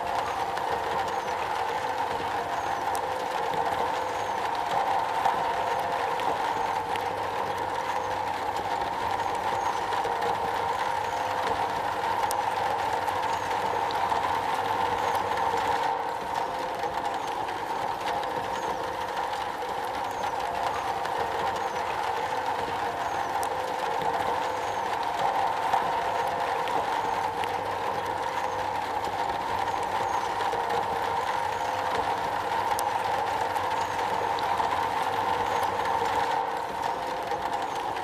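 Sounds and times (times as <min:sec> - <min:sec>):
rain on a metal roof: 0:00.0 - 0:38.0.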